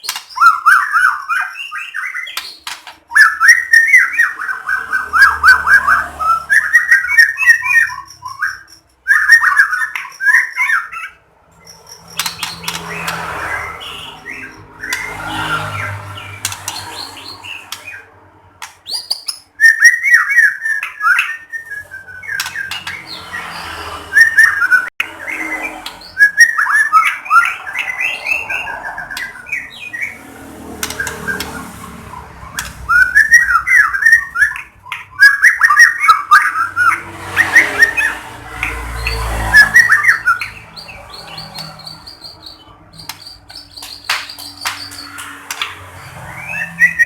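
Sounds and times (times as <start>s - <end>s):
bird singing whistled notes: 0.0s - 18.0s, 18.8s - 30.2s, 32.5s - 45.1s, 46.2s - 47.0s.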